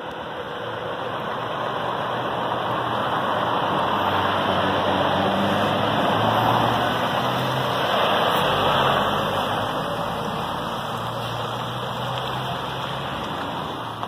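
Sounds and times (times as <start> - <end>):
diesel lorry engine passing: 0.0 - 14.0.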